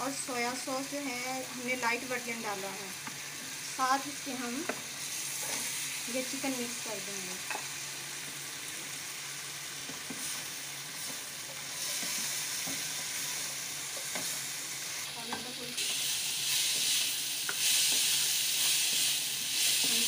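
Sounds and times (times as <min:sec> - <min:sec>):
chicken sizzling in a wok: 0:00.0 - 0:20.0.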